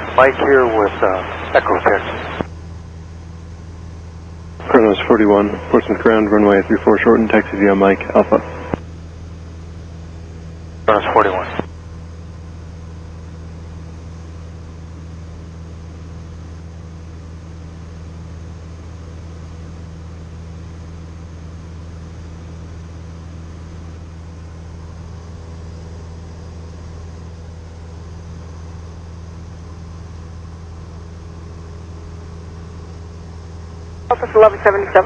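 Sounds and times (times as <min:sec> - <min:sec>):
aircraft engine droning: 0:00.0 - 0:35.0.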